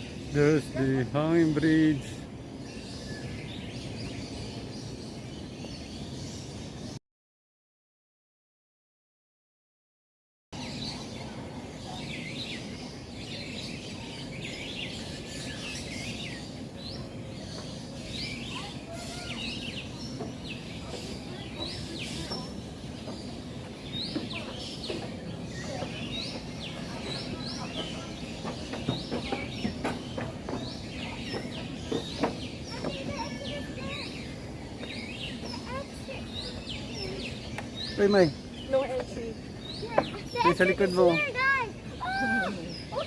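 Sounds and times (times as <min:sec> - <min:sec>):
birds chirping: 0:00.0 - 0:07.0, 0:10.6 - 0:43.0.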